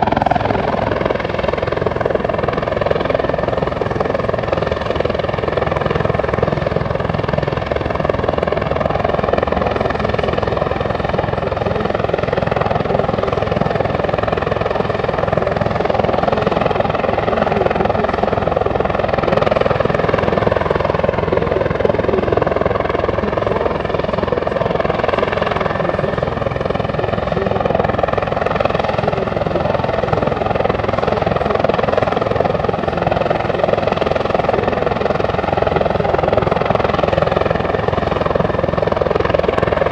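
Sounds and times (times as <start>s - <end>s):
helicopter flying: 0.0s - 39.9s.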